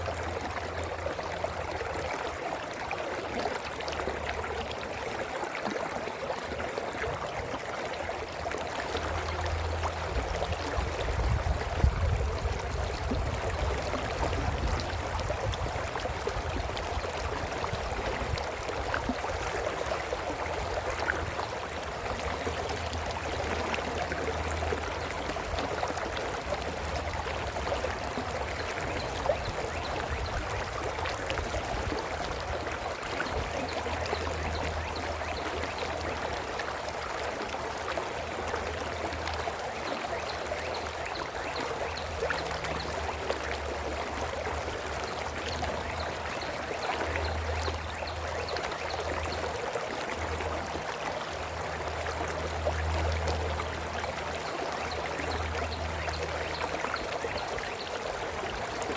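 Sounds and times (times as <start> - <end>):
brook flowing: 0.0 - 58.9.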